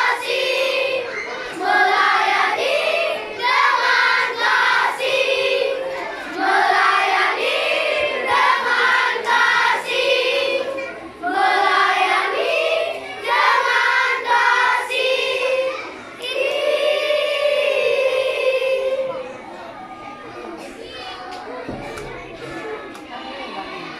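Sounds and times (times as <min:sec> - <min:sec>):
children's choir singing a march: 0:00.0 - 0:19.8.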